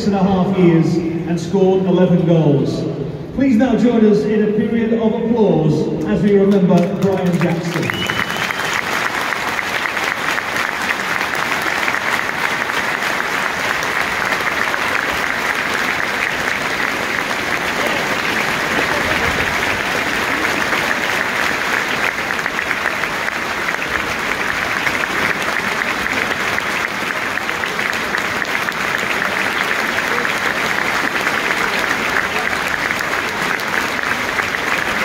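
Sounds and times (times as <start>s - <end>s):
stadium crowd applauding: 6.0s - 35.0s.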